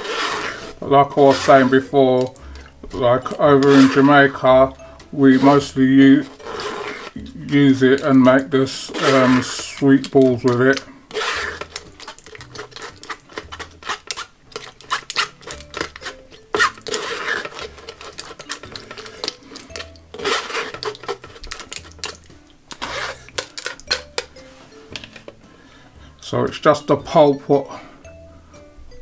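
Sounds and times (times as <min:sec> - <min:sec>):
spoon scraping pulp through sieve: 0:00.0 - 0:25.4.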